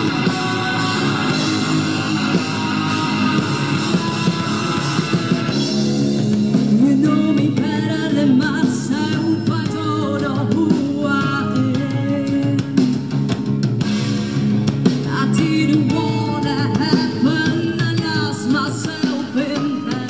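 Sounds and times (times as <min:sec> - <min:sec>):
person singing: 0:00.0 - 0:05.8, 0:06.5 - 0:13.0, 0:15.0 - 0:20.0
bass guitar: 0:00.0 - 0:20.0
drum kit: 0:00.0 - 0:20.0
electric guitar: 0:00.0 - 0:20.0.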